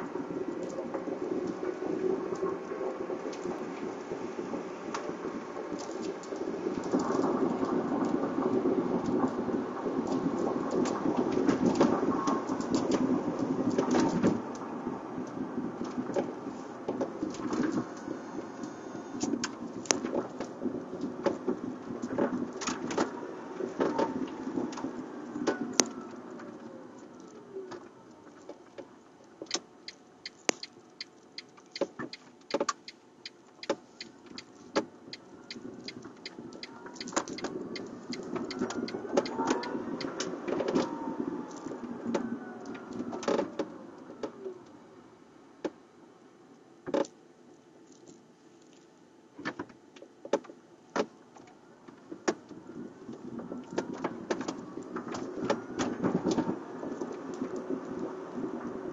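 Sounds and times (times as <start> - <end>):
tyres rumbling on road: 0.0 - 47.8, 49.0 - 58.9.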